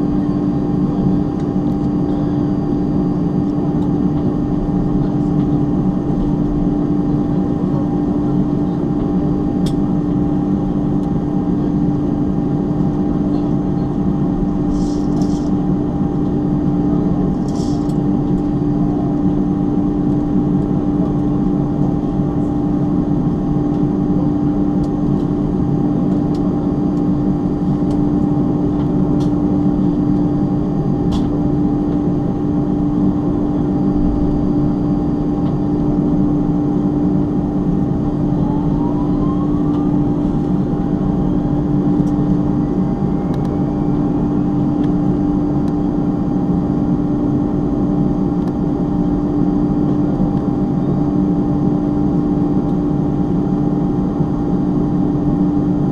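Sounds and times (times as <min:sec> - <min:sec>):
aircraft cabin engine drone: 0:00.0 - 0:55.9.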